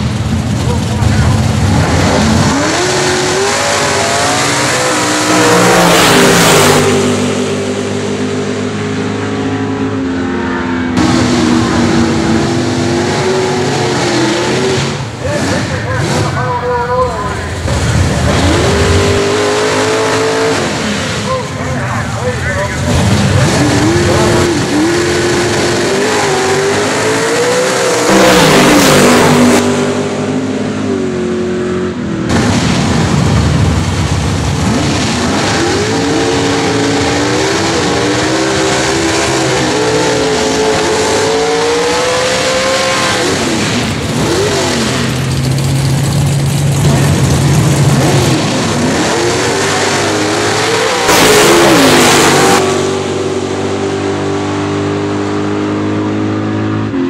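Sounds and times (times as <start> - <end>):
drag car engines revving: 0.0 - 57.0.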